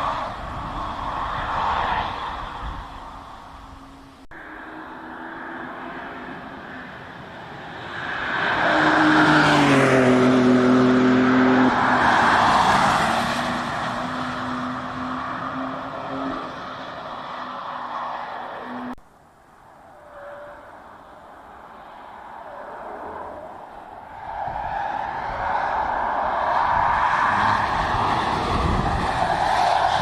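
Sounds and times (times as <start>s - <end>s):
car tyre and road noise: 0.0s - 30.0s.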